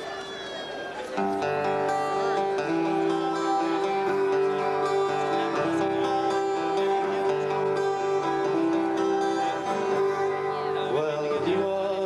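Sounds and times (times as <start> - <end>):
harmonica long held notes: 1.2 - 12.0
strummed acoustic guitars: 1.2 - 12.0.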